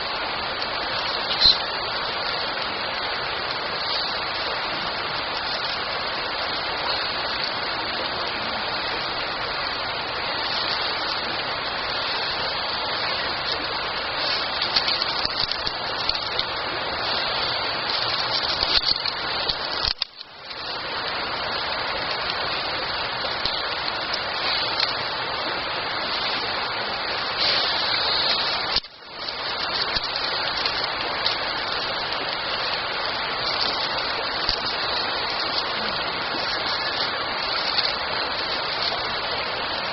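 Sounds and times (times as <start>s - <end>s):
campfire burning hiss: 0.0s - 39.9s.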